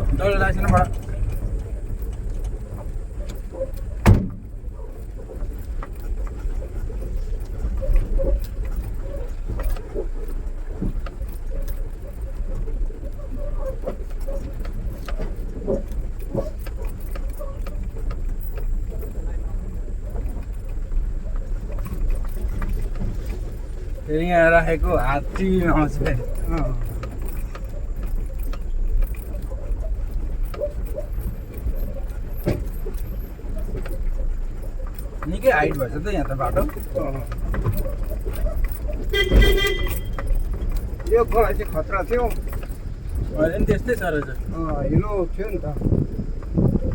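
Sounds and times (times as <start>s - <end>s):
diesel engine running: 0.0s - 46.9s
vehicle body knocks and rattles: 0.0s - 46.9s.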